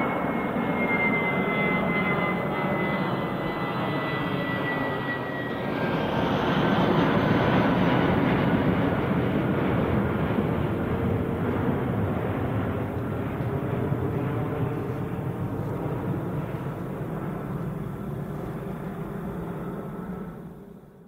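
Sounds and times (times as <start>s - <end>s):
high jet engine whine: 0.0s - 21.0s
jet airliner engine noise: 0.0s - 21.0s.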